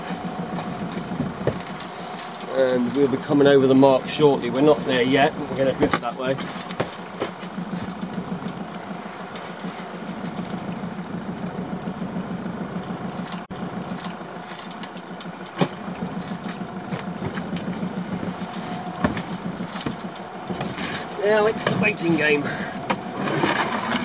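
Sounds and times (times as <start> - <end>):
boat engine idling: 0.0 - 24.0.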